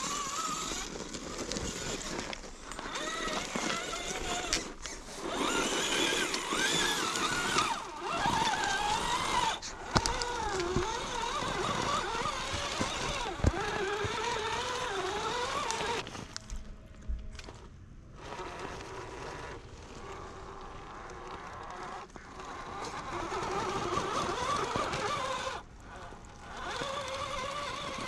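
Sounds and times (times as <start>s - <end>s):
electric motor whining: 0.0s - 16.4s, 18.2s - 28.0s.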